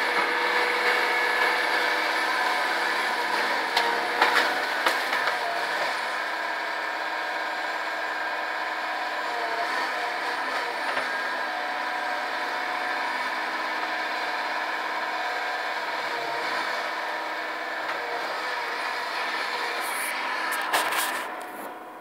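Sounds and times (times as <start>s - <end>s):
diesel engine and hydraulics: 0.0s - 22.0s.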